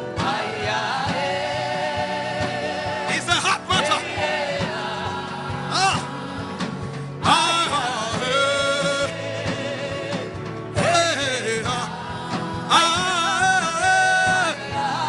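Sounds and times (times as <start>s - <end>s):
keyboard and bass accompaniment: 0.0s - 15.0s.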